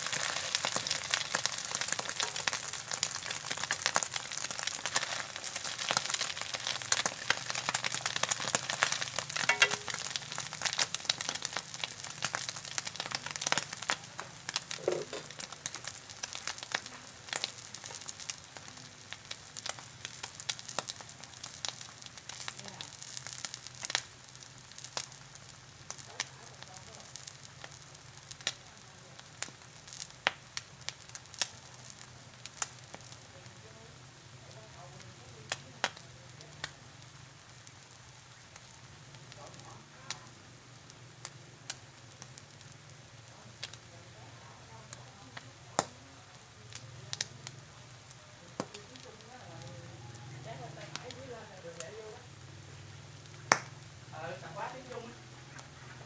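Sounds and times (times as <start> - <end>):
egg frying in hot oil: 0.0 - 56.0.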